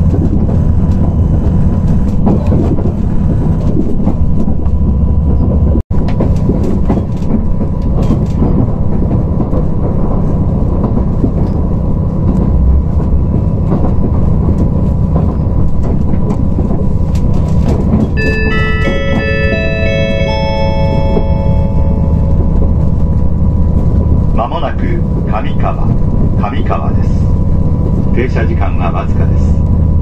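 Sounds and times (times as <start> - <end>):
diesel engine rumble: 0.0 - 30.0
train wheels on rails: 0.0 - 30.0.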